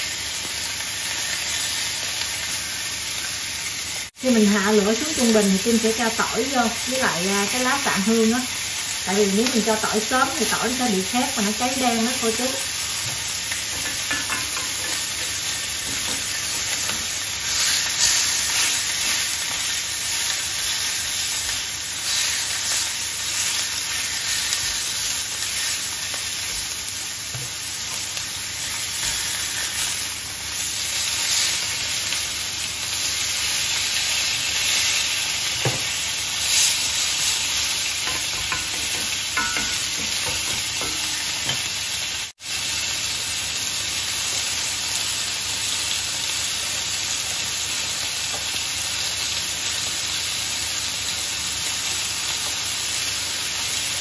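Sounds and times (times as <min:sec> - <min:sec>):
steaks sizzling in pan: 0:00.0 - 0:54.0.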